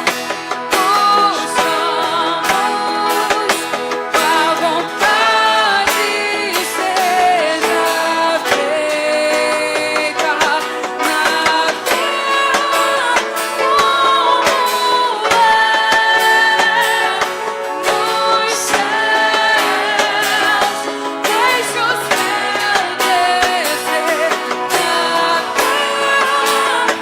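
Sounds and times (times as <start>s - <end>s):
guitar accompaniment: 0.0s - 27.0s
woman singing sustained notes: 0.7s - 27.0s.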